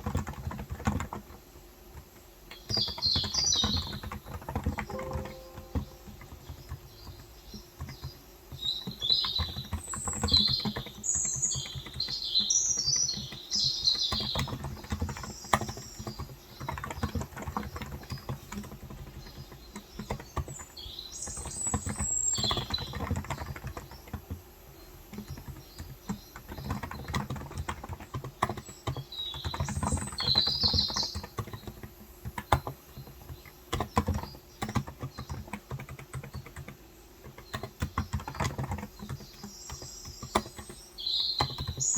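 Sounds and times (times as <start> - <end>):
keyboard typing clicks: 2.0 - 24.4, 25.1 - 41.9
birds chirping: 2.6 - 24.2, 24.8 - 41.9.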